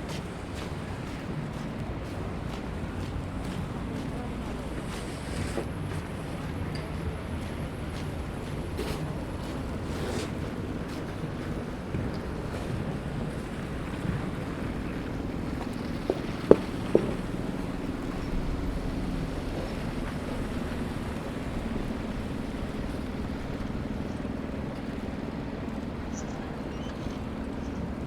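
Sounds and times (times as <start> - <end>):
wind noise: 0.0 - 26.6
city traffic rumble: 0.0 - 28.0
low engine hum: 0.0 - 28.0.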